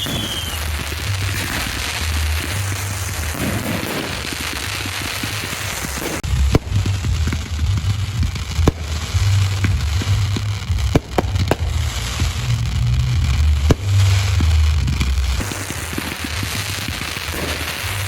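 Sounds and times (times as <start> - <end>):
fireworks crackling hiss: 0.0 - 18.0
fireworks rumble: 0.0 - 18.0
sharp firework cracks: 0.0 - 18.0.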